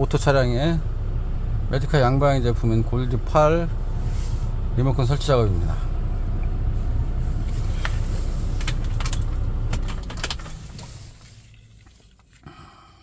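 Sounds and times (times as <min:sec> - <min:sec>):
diesel engine idling: 0:00.0 - 0:11.8.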